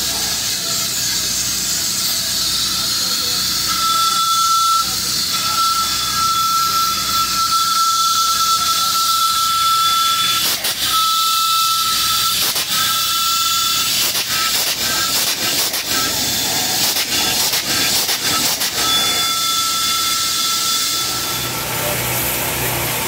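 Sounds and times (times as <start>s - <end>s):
steam hissing: 0.0s - 23.0s
thin whistling tone: 2.1s - 22.1s.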